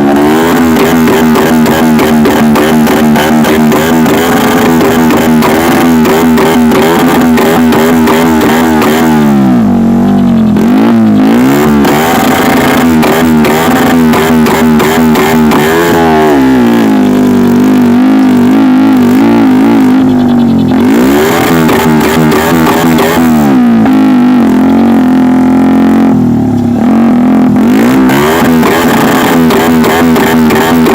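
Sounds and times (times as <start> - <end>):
exhaust crackles: 0.0 - 30.9
motorcycle engine revving: 0.0 - 30.9.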